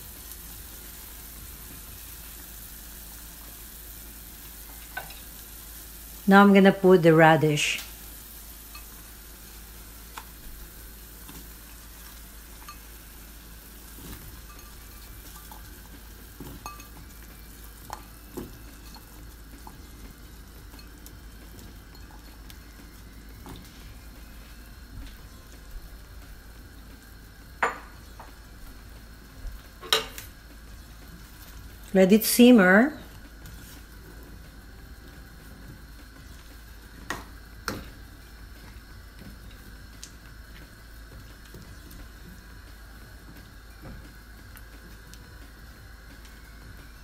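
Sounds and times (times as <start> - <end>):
broth simmering with faint hiss: 0.0 - 47.0.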